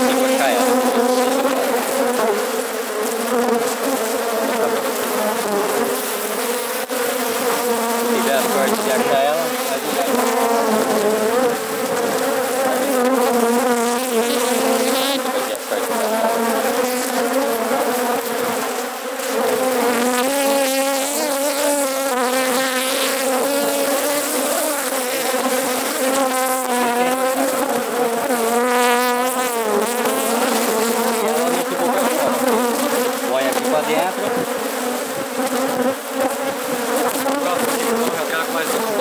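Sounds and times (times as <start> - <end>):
honeybee colony buzzing: 0.0 - 39.0.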